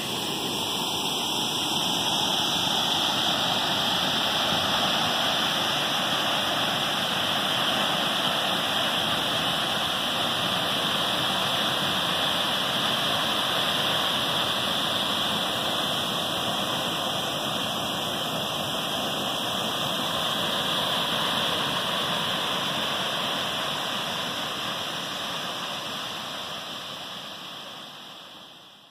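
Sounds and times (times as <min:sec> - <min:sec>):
waterfall roar: 0:00.0 - 0:28.5.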